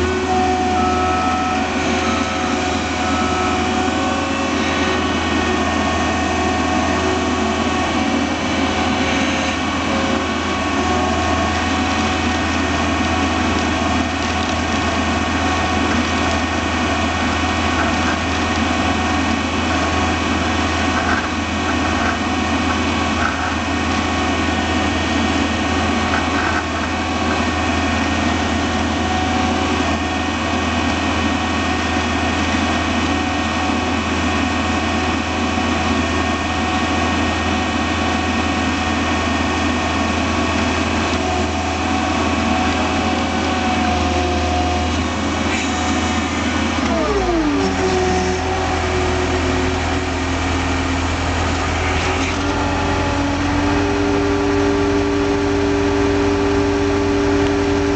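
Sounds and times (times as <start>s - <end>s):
loader diesel engine running: 0.0s - 57.9s
plow blade pushing snow: 0.0s - 57.9s.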